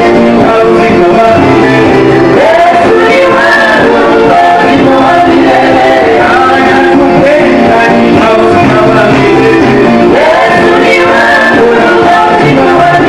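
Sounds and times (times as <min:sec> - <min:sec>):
voices singing with instruments: 0:00.0 - 0:13.0.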